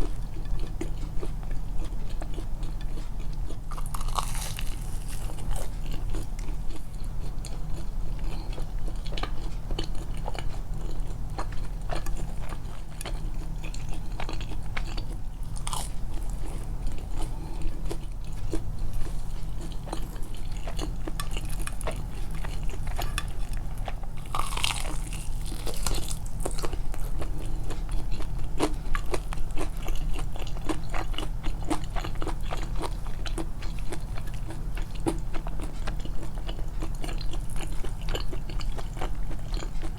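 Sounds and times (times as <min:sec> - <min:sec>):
chewing fried chicken: 0:00.0 - 0:39.9
steady low hum: 0:00.0 - 0:39.9.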